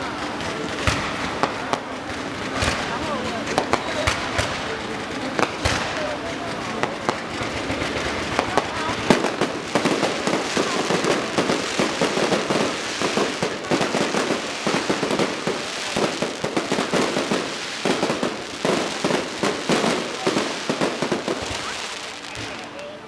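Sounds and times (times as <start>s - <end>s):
firework bangs: 0.0s - 22.8s
firecrackers crackling: 0.0s - 23.0s.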